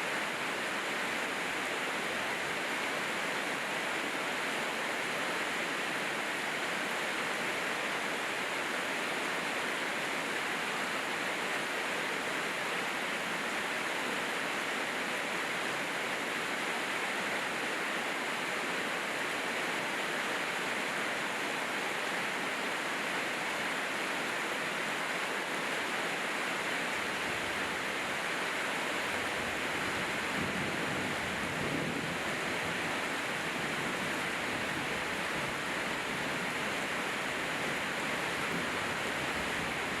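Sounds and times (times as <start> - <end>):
heavy rainfall: 0.0 - 40.0.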